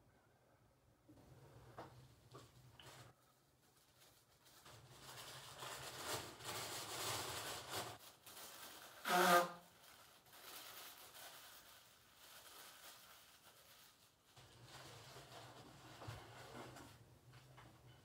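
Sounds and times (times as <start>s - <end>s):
paper napkin rustling: 2.5s - 17.1s.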